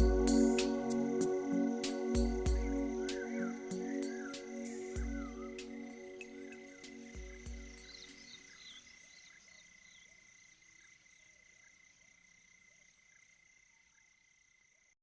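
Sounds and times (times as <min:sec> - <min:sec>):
frogs chirping: 0:00.0 - 0:14.9
insects trilling: 0:00.0 - 0:14.9.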